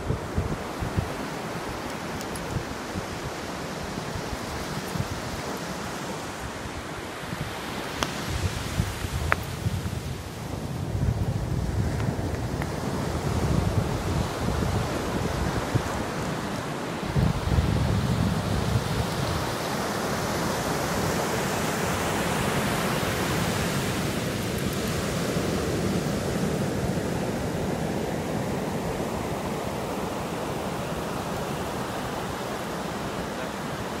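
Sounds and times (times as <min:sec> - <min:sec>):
ocean surf breaking on beach: 0:00.0 - 0:34.0.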